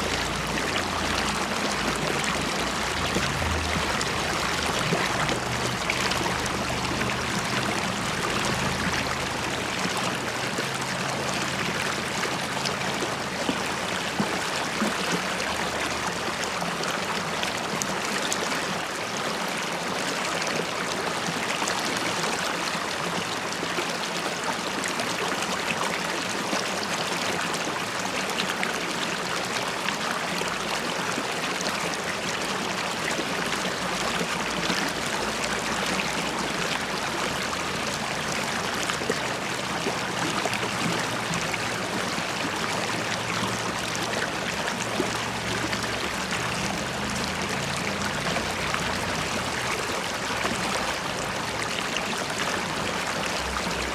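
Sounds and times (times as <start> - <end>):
river water bubbling over stones: 0.0 - 53.9.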